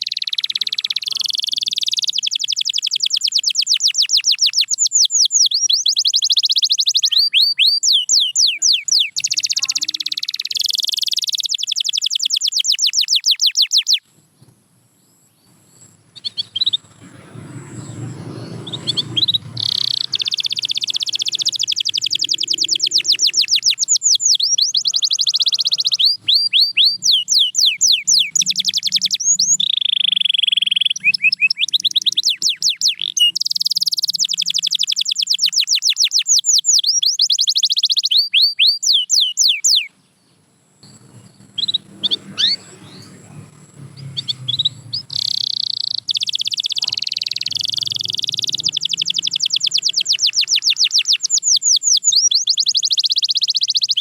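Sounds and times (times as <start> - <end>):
canary singing rapid trills: 0.0 - 14.1, 15.1 - 54.0.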